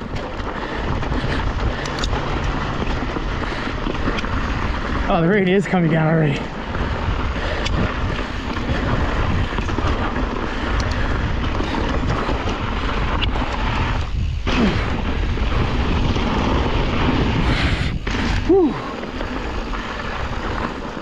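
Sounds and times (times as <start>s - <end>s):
bike tyre roar and rattle: 0.0s - 21.0s
wind rumble on microphone: 0.0s - 21.0s.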